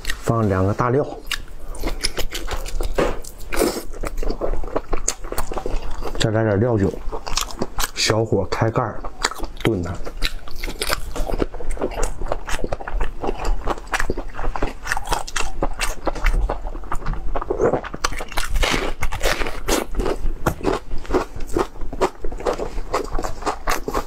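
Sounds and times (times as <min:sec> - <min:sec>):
wet chewing: 0:01.2 - 0:08.2, 0:08.9 - 0:24.0.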